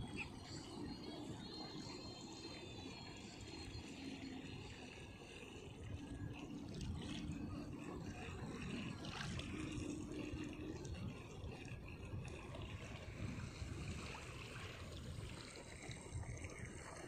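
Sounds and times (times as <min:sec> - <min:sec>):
toy boat motor humming: 0:00.0 - 0:17.0.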